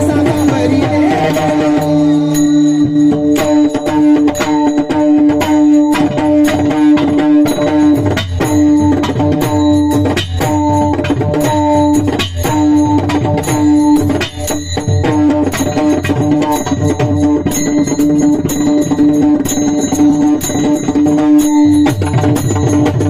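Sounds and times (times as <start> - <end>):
drum strokes: 0.0 - 23.0.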